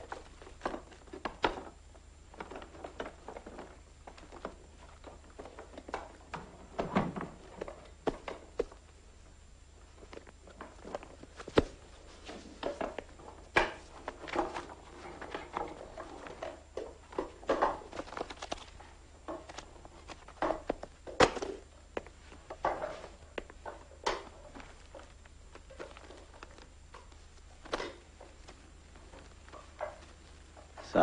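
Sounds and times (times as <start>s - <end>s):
book pages flipping and rustling: 0.0s - 9.0s, 9.8s - 30.8s
book clicks and knocks: 2.4s - 8.8s, 10.0s - 30.8s.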